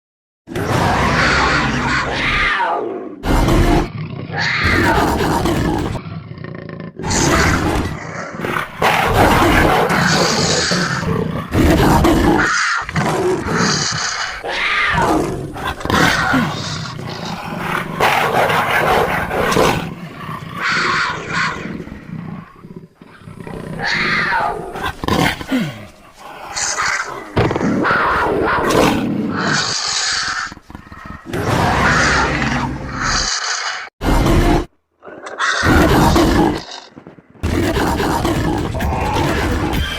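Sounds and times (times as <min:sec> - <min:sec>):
cartoon big cat roars and snarls: 0:00.5 - 0:39.9.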